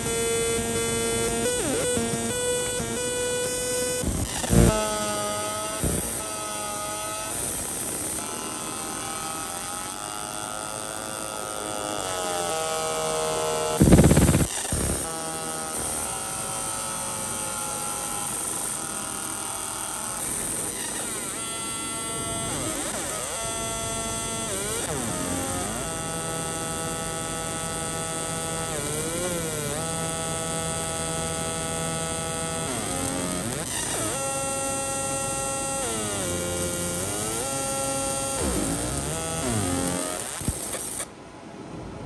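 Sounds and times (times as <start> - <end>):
laser engraver buzzing whine: 0.0 - 41.1.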